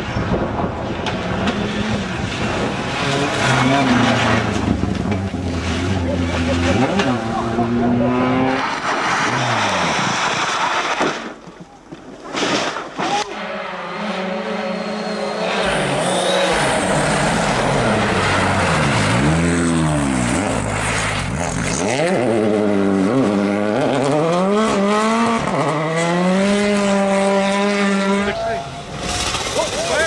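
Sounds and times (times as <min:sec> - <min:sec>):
rally car engine revving: 0:00.0 - 0:11.0, 0:13.2 - 0:30.0.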